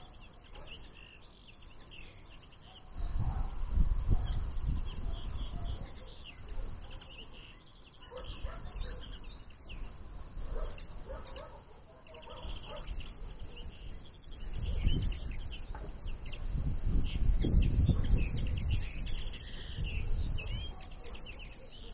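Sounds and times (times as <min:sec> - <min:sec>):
small songbirds chirping: 0:00.0 - 0:21.9.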